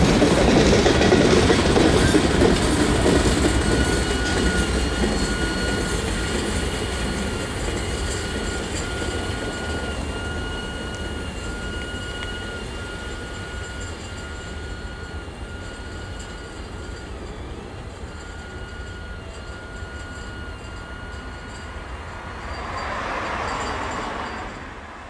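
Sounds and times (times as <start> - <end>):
freight train rolling on rails: 0.0 - 25.0
thin high tone: 2.0 - 25.0.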